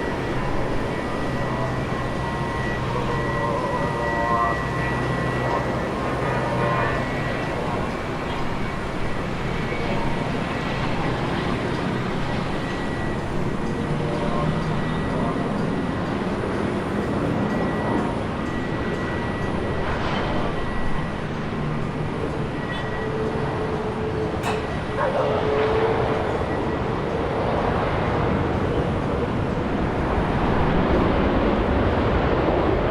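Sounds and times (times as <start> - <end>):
high jet engine whine: 0.0 - 32.9
jet engines rushing: 0.0 - 32.9.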